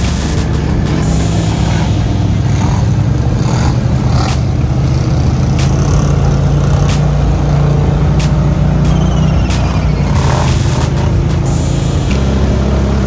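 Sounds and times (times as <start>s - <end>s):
quad engines running: 0.0s - 13.0s.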